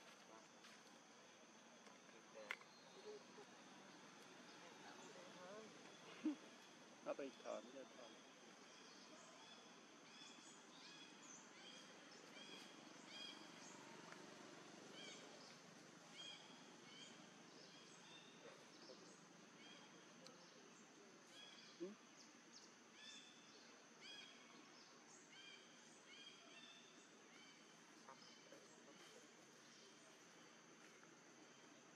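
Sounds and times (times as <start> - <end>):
high insect hum: 0.0 - 31.9
small birds chirping: 1.7 - 31.9.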